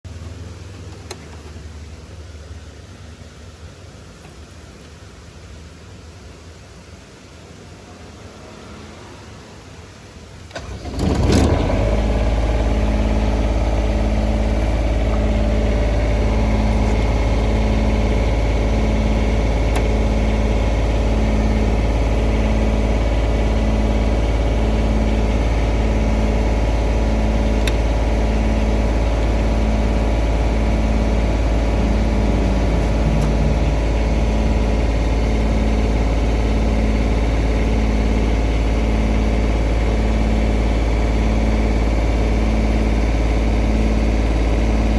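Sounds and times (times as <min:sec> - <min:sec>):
diesel engine starting and idling: 0:00.1 - 0:44.9.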